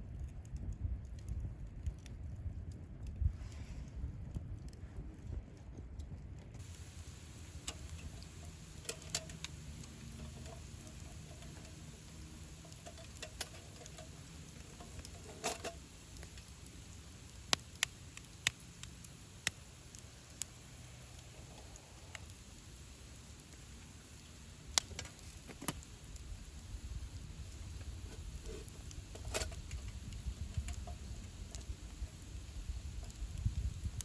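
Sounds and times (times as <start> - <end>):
campfire crackling and popping: 0.0 - 34.0
low steady rumble: 0.0 - 34.0.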